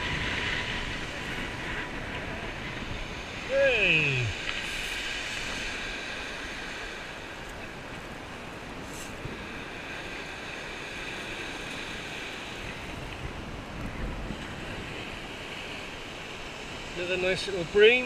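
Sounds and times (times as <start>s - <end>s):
surf on shingle beach: 0.0s - 18.0s
wind: 0.0s - 18.0s.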